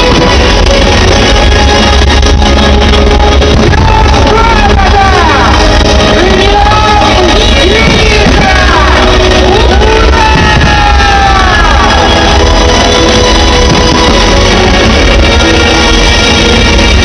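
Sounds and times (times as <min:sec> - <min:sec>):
loud rock music with singing: 0:00.0 - 0:17.0.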